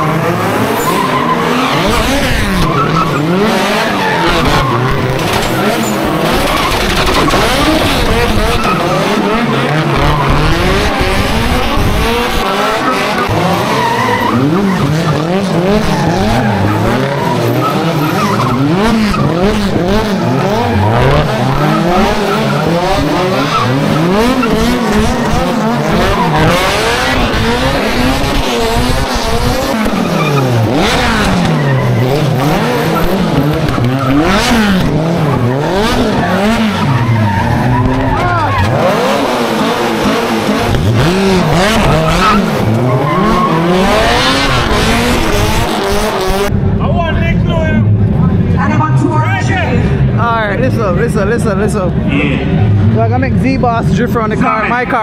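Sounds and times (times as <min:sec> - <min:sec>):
car engine revving: 0:00.0 - 0:55.0
tyres skidding and squealing: 0:00.0 - 0:55.0.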